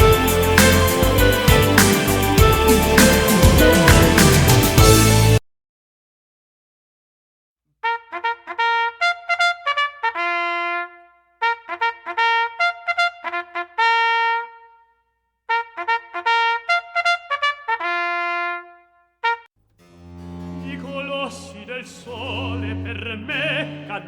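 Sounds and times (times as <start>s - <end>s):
solo brass melody: 0.0s - 5.4s, 7.8s - 14.9s, 15.5s - 24.0s.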